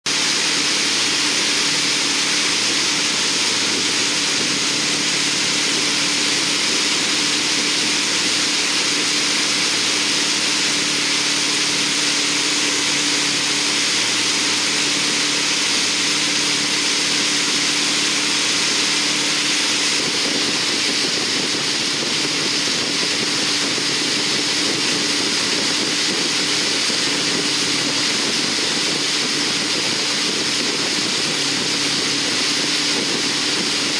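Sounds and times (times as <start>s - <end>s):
churning wake rushing: 0.0s - 33.9s
wind: 0.0s - 33.9s
boat engine humming: 0.1s - 33.9s.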